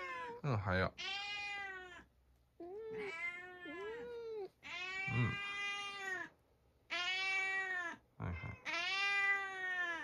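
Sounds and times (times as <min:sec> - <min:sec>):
cat meowing: 0:00.0 - 0:02.1, 0:02.8 - 0:10.0.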